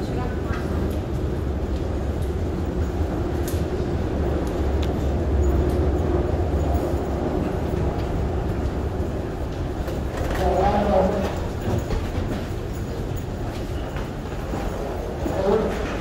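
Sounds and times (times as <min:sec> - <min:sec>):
low rumble of trains: 0:00.0 - 0:16.0
footsteps clicking: 0:00.5 - 0:16.0.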